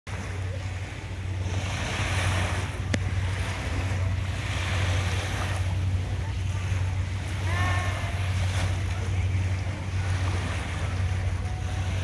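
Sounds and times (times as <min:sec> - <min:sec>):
small waves lapping on shore: 0:00.1 - 0:12.0
wind rumble on microphone: 0:00.1 - 0:12.0.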